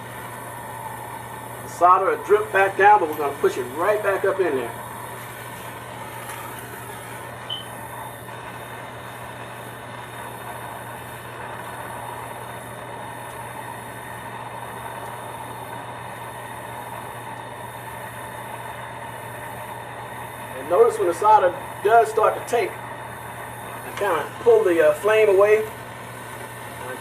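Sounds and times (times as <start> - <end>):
torch flame hissing: 0.0 - 27.0.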